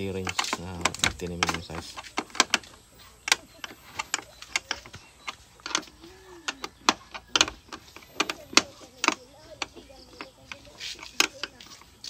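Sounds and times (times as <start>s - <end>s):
wrench clicking on bolt: 0.0s - 12.0s.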